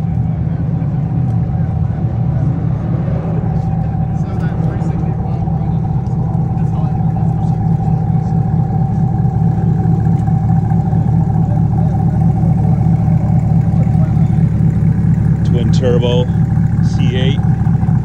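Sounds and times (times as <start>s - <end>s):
engine idling with whine: 0.0s - 18.0s.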